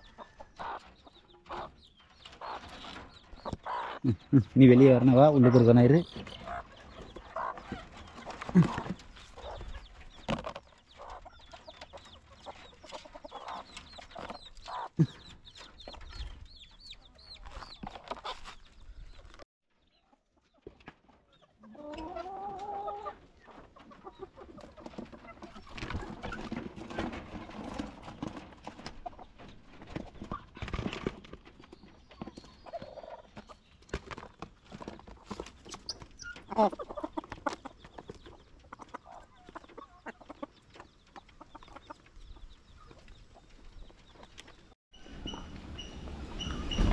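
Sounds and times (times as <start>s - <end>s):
hens clucking: 0.0s - 19.4s, 20.1s - 46.9s.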